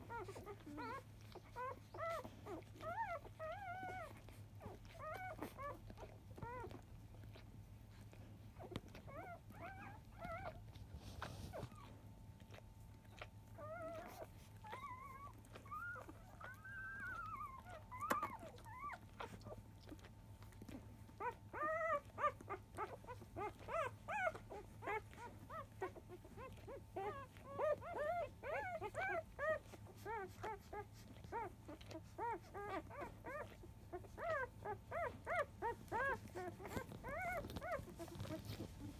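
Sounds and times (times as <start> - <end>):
puppies squeaking and whimpering: 0.0 - 38.9.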